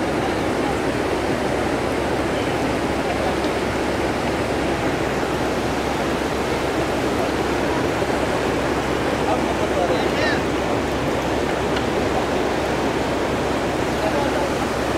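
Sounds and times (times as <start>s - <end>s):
faint crowd voices: 0.0s - 14.9s
rushing floodwater: 0.0s - 14.9s.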